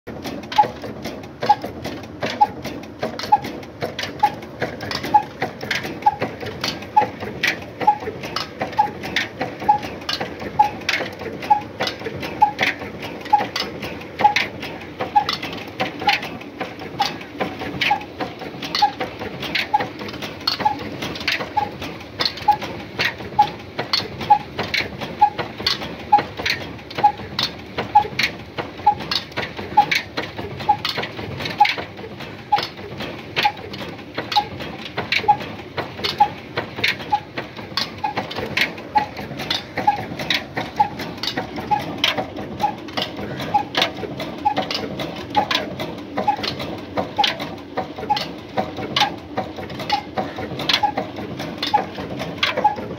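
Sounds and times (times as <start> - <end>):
diesel engine running: 0.1 - 52.9.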